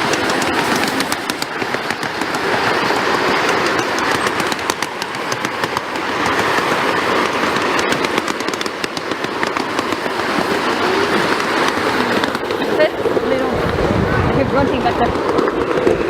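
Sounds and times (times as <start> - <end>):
train cars rumbling: 0.0 - 16.0
wheels clicking and clattering: 0.0 - 16.0.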